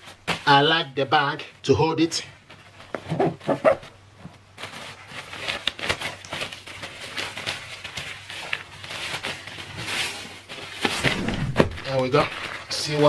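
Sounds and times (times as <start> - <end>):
fabric stuff sack rustling: 2.3 - 13.0.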